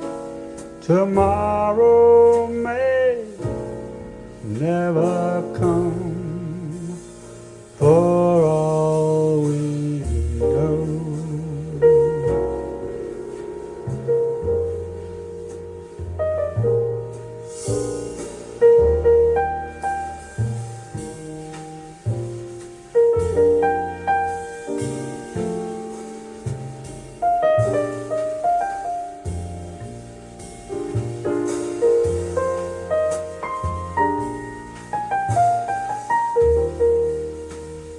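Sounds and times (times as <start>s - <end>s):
low bass line: 0.0s - 37.9s
piano playing jazz ballad: 0.0s - 37.9s.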